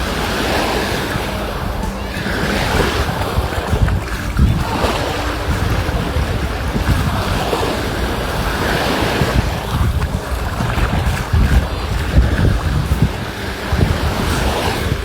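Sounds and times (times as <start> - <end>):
sea waves washing on beach: 0.0 - 15.0
wind buffeting microphone: 0.0 - 15.0.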